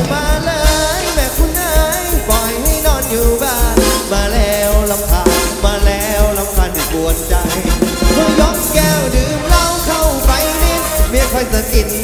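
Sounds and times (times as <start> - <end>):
steady bass drum beat: 0.0 - 12.0.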